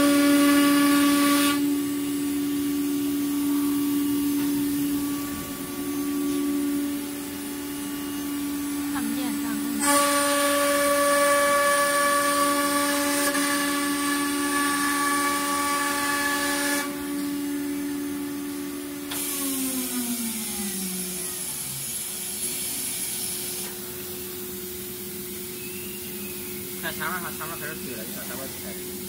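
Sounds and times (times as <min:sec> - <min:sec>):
low machine hum: 0:00.0 - 0:29.0
router spindle whining: 0:00.0 - 0:29.0.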